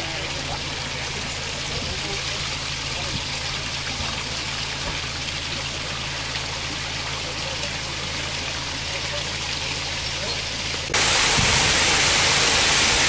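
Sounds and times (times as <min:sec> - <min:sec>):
water rushing into lock: 0:00.0 - 0:13.0.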